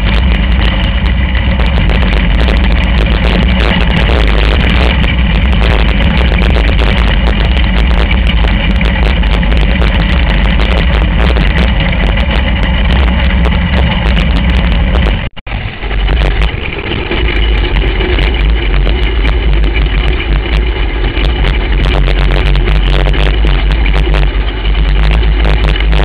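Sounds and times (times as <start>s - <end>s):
kart engine running: 0.0s - 26.0s.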